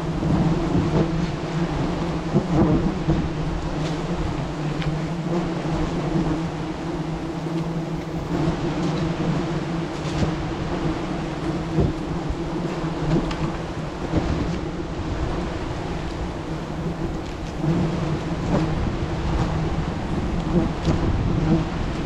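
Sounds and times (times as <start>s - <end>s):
constant rushing noise: 0.0s - 22.0s
bees buzzing: 0.1s - 21.9s.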